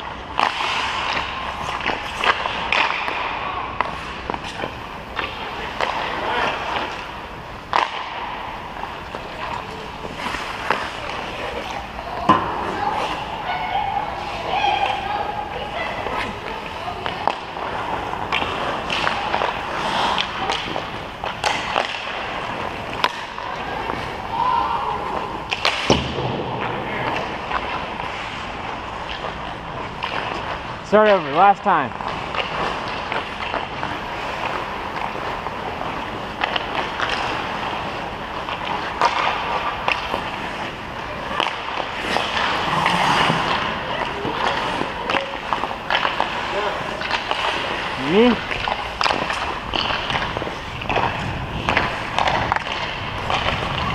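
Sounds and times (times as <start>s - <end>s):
hockey sticks striking pucks: 0.0s - 53.9s
skate blades scraping ice: 0.0s - 53.9s.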